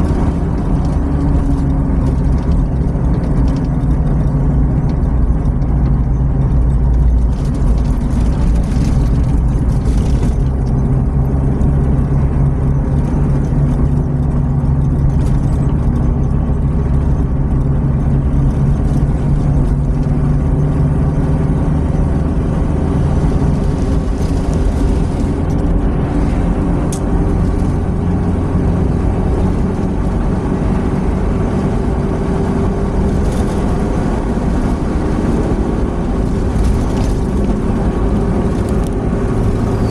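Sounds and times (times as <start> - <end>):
engine and tyre noise in cabin: 0.0 - 39.9.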